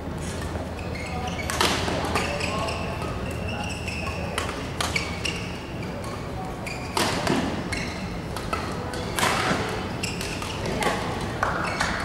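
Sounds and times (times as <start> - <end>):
shoes squeaking on court: 0.2 - 10.9.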